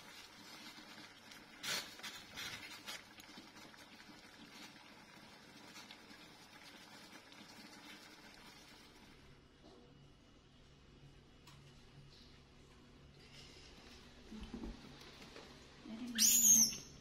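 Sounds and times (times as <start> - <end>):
pot simmering with faint hiss: 0.0 - 17.0.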